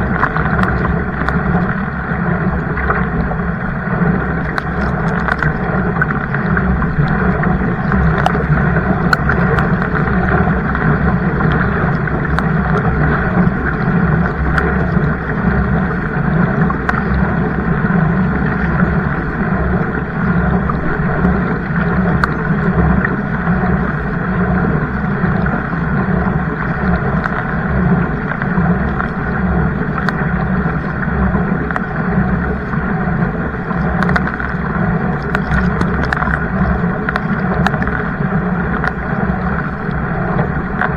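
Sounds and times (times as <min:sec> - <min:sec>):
water and wind rushing: 0:00.0 - 0:40.9.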